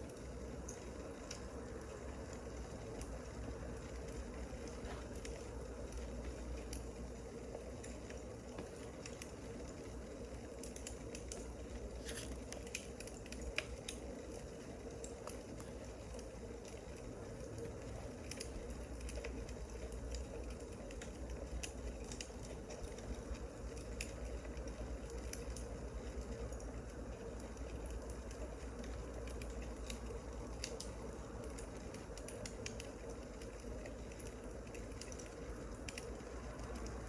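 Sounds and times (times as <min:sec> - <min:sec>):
firewood crackling and popping: 0:00.0 - 0:37.0
low hiss of fire: 0:00.0 - 0:37.0.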